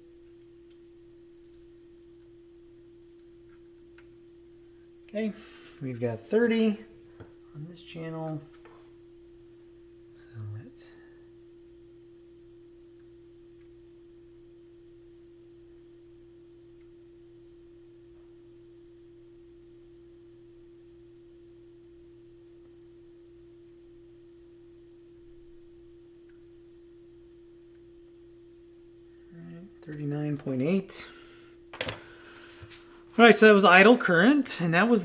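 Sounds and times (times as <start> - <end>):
low hum: 0.0 - 35.0
steady pure tone: 0.0 - 35.0.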